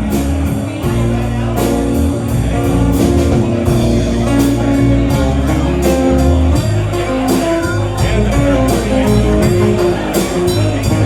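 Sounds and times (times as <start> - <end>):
bass: 0.0 - 11.0
guitar line: 0.0 - 11.0
steady drums: 0.0 - 11.0.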